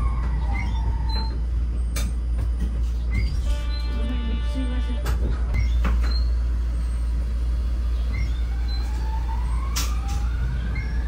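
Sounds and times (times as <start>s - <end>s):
tram running rumble: 0.0s - 11.0s.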